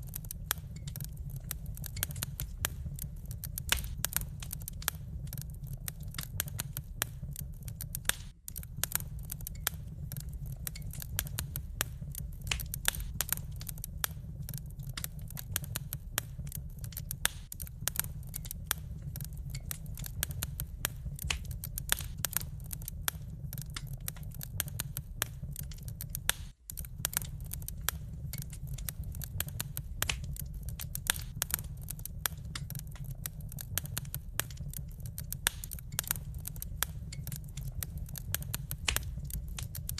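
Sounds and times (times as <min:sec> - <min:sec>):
low rumble: 0:00.0 - 0:39.9
wood fire crackling: 0:00.0 - 0:39.9.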